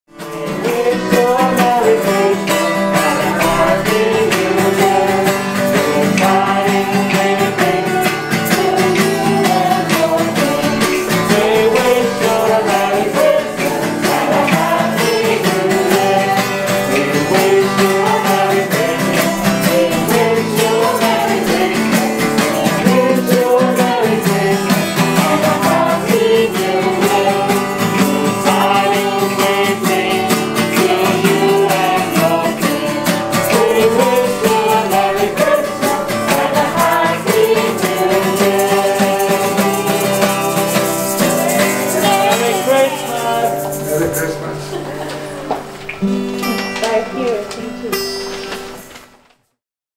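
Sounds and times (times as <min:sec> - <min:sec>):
strummed acoustic guitar: 0:00.1 - 0:49.4
group singing a carol: 0:00.2 - 0:45.8.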